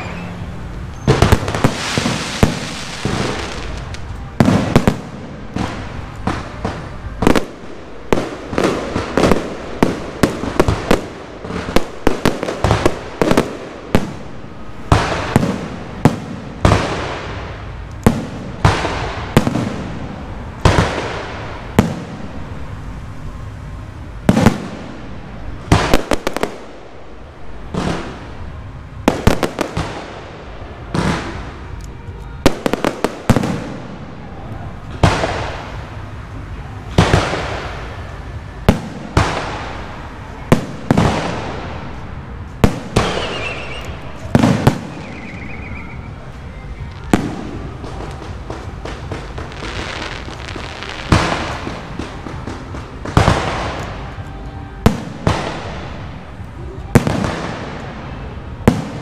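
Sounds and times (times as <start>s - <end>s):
firework bangs: 0.0s - 59.0s.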